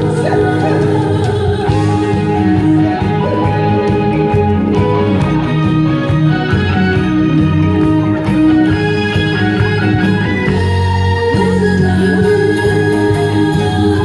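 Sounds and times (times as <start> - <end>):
upbeat guitar instrumental: 0.0 - 14.0.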